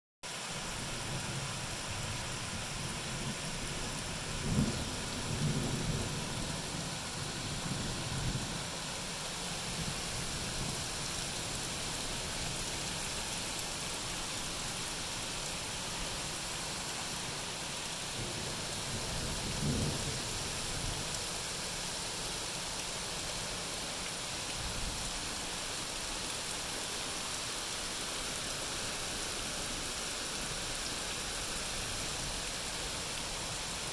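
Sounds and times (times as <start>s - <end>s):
rain falling: 0.2s - 33.9s.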